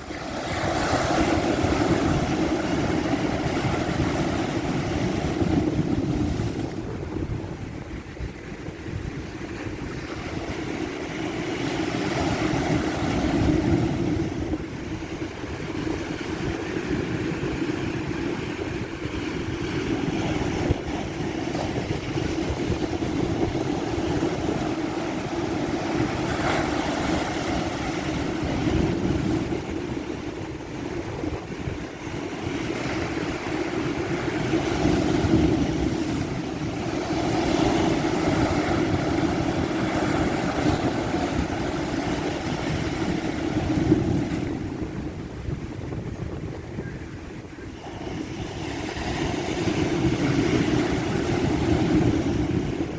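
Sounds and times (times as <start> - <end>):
ocean waves washing: 0.0 - 52.9.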